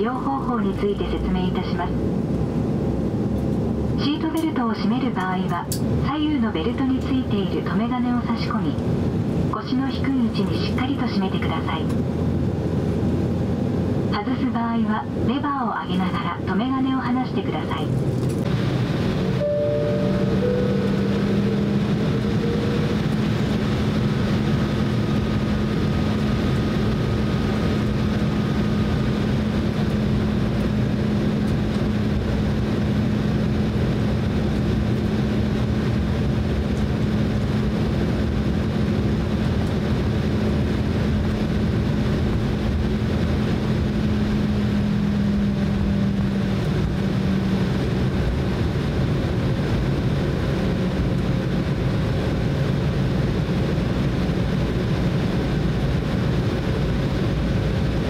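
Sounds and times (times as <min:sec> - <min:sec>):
jet engines running at low power: 0:00.0 - 0:58.0
low cabin hum: 0:00.0 - 0:58.0.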